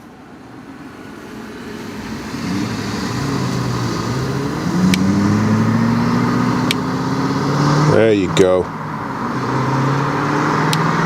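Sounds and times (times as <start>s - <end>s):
car engine accelerating past: 1.6s - 11.0s.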